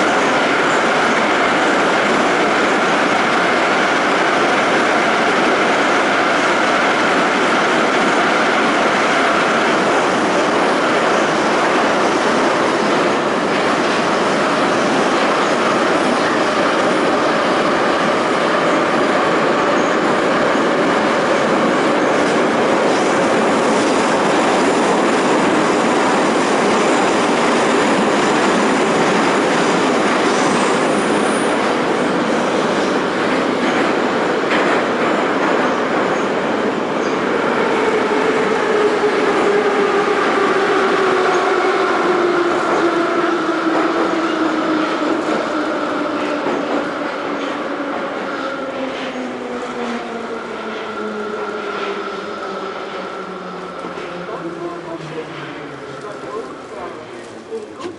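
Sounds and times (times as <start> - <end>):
subway train wheels on rails: 0.0 - 57.9.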